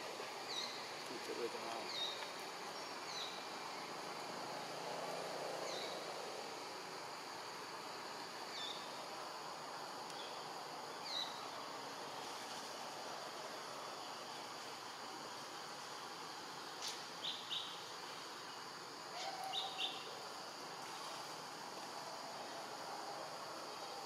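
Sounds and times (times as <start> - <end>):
insects hissing: 0.0 - 24.0.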